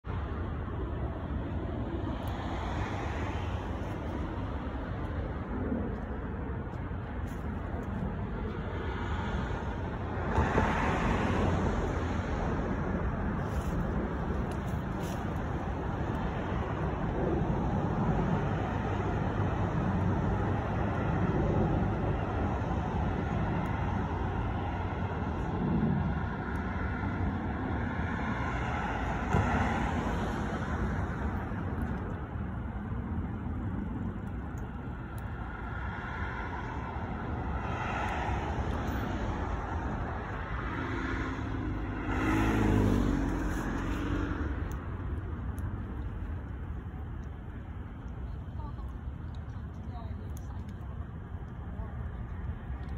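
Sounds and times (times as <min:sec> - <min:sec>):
road traffic rumble: 0:00.0 - 0:52.9
louder vehicles passing: 0:00.1 - 0:52.9.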